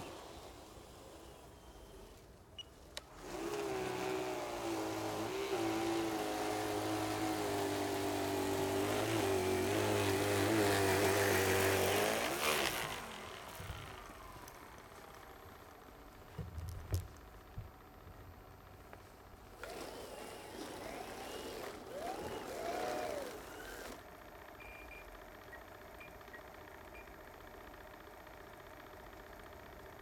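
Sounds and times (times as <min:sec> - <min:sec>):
snow blower motor whining: 0:00.0 - 0:30.0.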